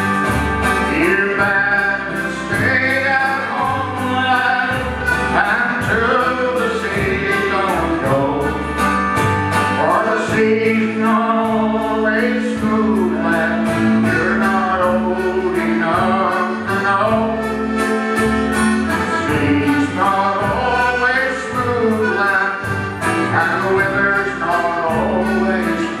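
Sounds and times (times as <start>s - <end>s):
live band playing a sea shanty: 0.0s - 26.0s
male voices singing: 0.8s - 8.8s, 9.8s - 17.8s, 18.9s - 26.0s.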